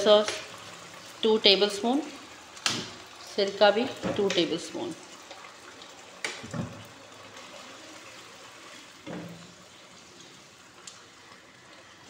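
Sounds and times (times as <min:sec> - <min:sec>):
liquid bubbling in a pan: 0:00.0 - 0:12.0.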